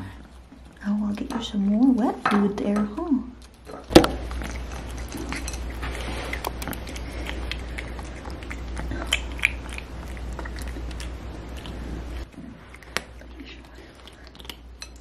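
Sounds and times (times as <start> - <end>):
kitten chewing food: 0.0 - 1.8, 3.4 - 15.0
steady low hum: 0.0 - 15.0.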